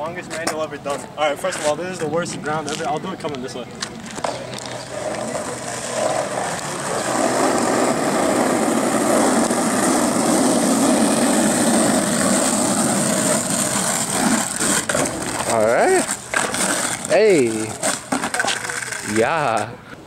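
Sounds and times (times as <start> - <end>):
skateboard wheels rolling on asphalt: 0.0 - 20.0.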